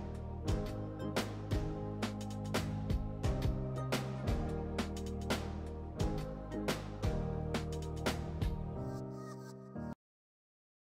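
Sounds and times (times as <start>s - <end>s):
steady drum beat: 0.0s - 8.8s.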